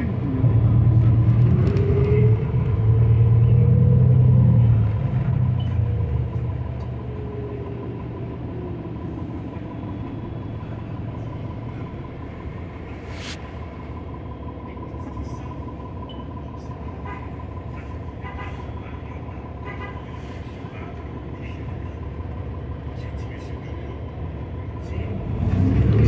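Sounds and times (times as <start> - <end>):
bus engine whine and drone: 0.0 - 26.0.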